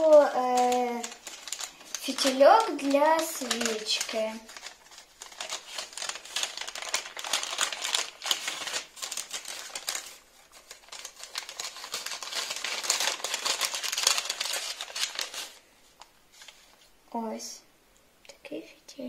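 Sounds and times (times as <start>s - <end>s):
paper bag crinkling: 0.0s - 16.8s.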